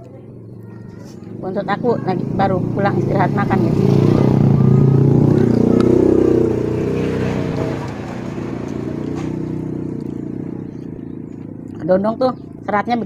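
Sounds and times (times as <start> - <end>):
passing vehicle engine: 0.0 - 13.0.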